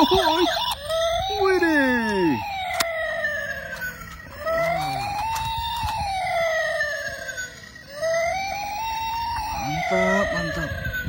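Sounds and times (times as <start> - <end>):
toy electronic siren wailing: 0.0 - 11.0.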